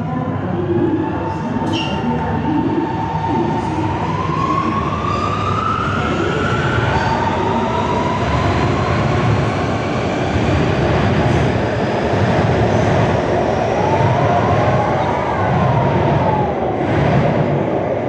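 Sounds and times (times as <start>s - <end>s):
metro train motors whining: 0.0s - 18.0s
wheels rumbling on rail: 0.0s - 18.0s.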